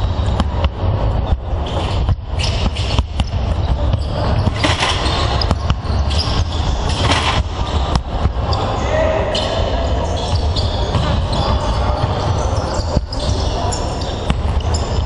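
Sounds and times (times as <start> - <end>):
basketballs bouncing on wooden floor: 0.0 - 8.6, 9.4 - 15.0.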